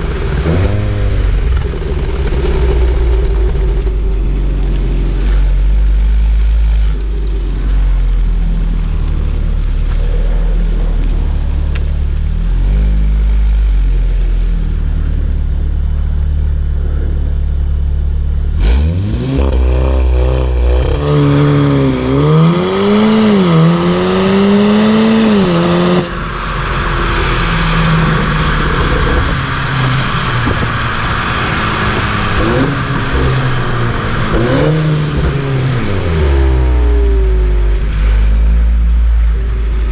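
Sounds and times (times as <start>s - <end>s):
car engine revving: 0.0s - 39.9s
road and wind noise: 0.0s - 39.9s.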